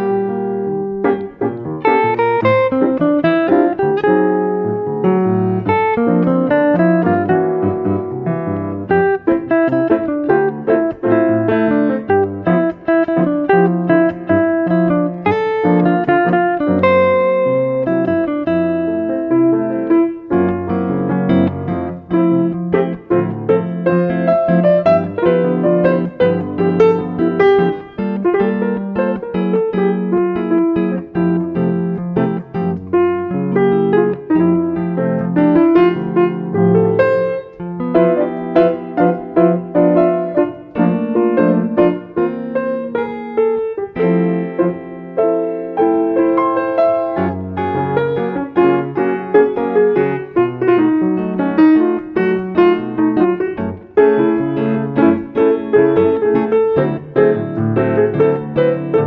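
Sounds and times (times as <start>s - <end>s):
fast piano piece: 0.0s - 59.0s.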